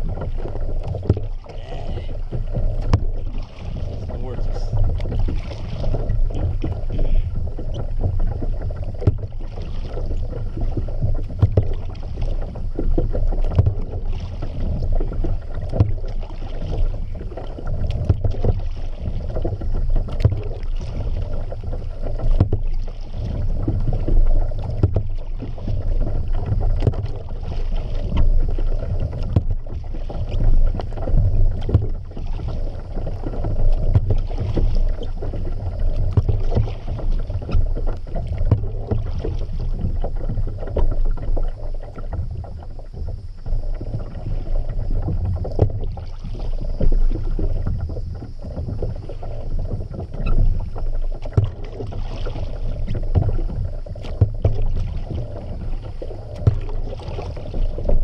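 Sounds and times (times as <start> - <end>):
kayak paddle strokes in water: 0.0 - 58.0
water rumble: 0.0 - 58.0
wind on microphone: 0.0 - 58.0.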